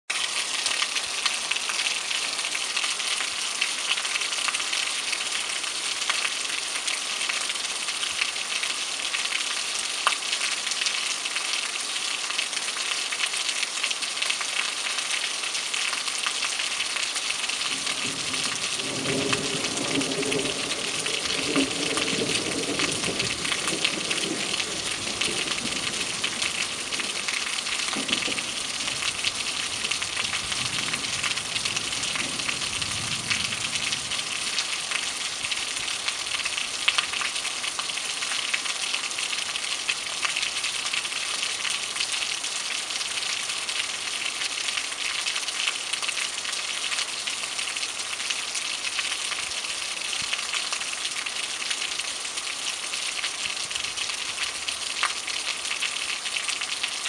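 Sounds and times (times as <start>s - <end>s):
heavy rain on pavement: 0.1s - 57.0s.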